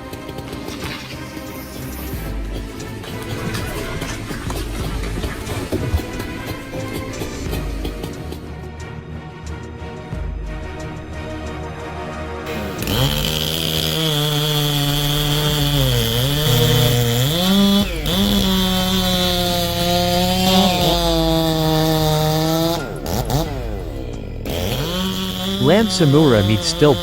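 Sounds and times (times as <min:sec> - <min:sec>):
chainsaw cutting wood: 0:00.0 - 0:08.6, 0:12.5 - 0:27.0.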